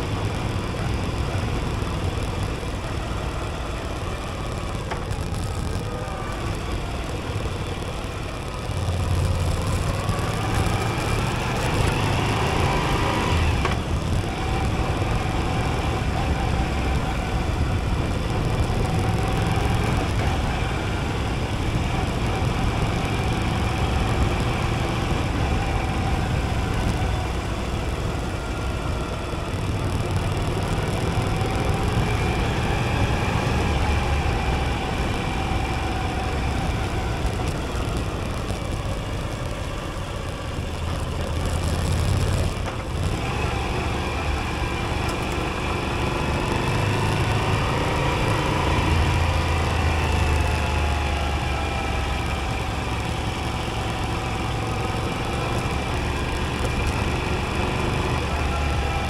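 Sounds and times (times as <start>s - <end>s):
motorcycle engine running: 0.0s - 59.0s
road noise: 0.0s - 59.0s
wind noise: 0.0s - 59.0s.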